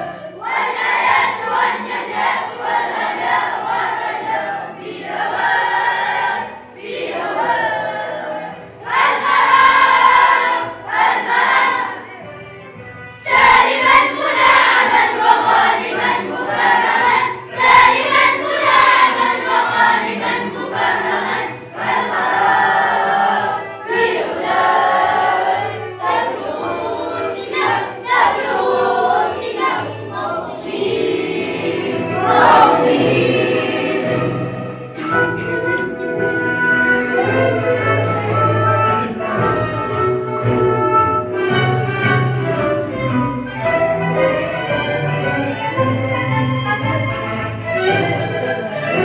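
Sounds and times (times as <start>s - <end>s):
children's choir singing: 0.0s - 49.0s.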